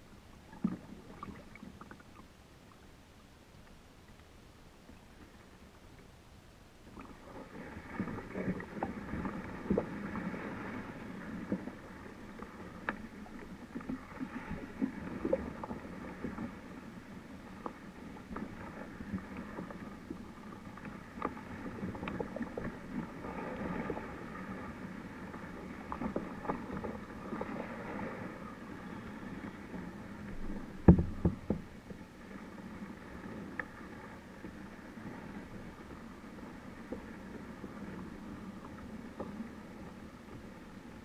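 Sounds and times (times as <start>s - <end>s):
water lapping along kayak hull: 0.0s - 41.0s.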